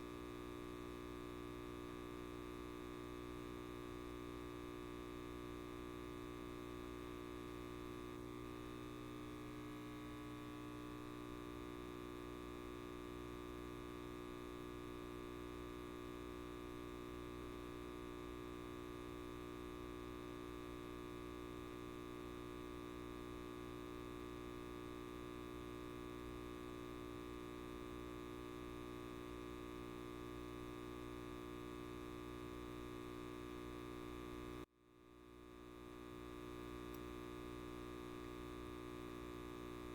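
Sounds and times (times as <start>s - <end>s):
light bulb mains hum: 0.0s - 39.9s.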